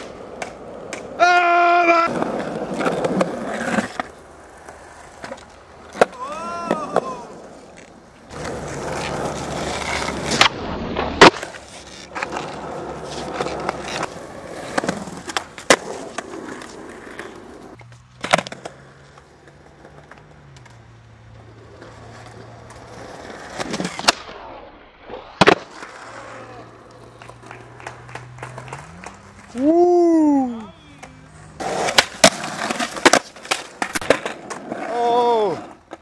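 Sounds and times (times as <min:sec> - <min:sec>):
skateboard tail clacking: 0:00.0 - 0:24.5, 0:25.2 - 0:36.0
skateboard wheels rolling on asphalt: 0:00.0 - 0:36.0.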